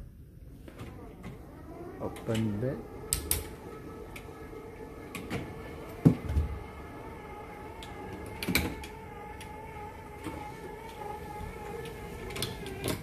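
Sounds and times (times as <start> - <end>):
motorized curtain track humming: 0.6 - 13.0.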